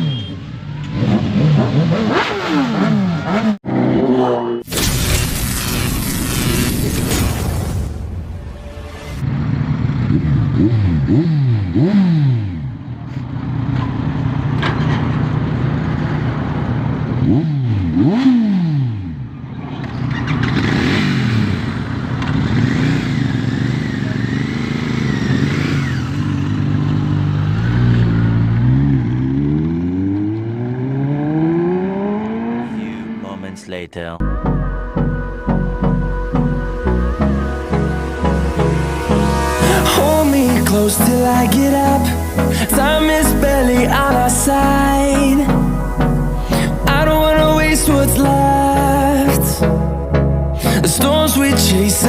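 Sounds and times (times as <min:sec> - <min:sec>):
motorbike engines revving: 0:00.0 - 0:04.7, 0:09.2 - 0:34.2, 0:36.4 - 0:52.0.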